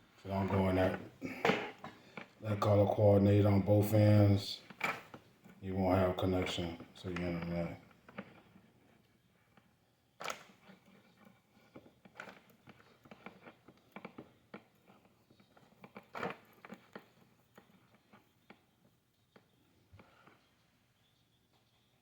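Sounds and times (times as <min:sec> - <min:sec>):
clicks and rustles of wires: 0:00.1 - 0:02.8, 0:03.5 - 0:20.8.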